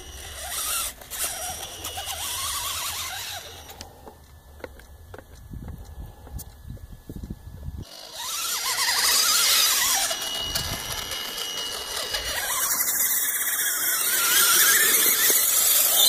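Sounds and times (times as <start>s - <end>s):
toy truck electric motor whining: 0.0s - 4.7s, 7.8s - 16.0s.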